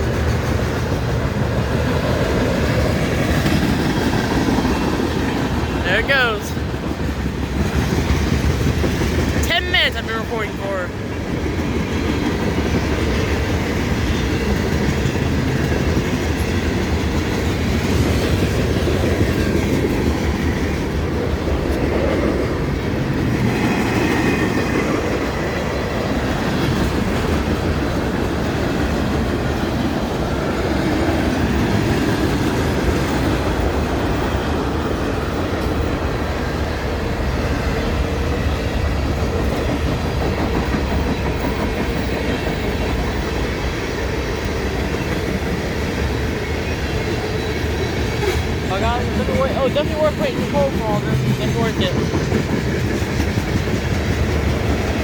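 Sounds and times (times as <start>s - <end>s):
freight train cars rolling: 0.0s - 55.0s.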